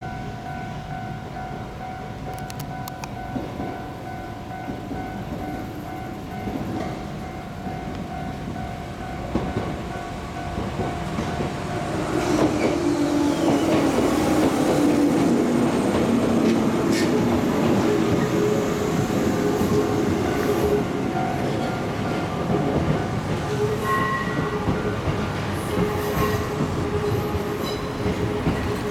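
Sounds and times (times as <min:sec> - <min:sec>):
electric train passing: 0:00.0 - 0:28.9.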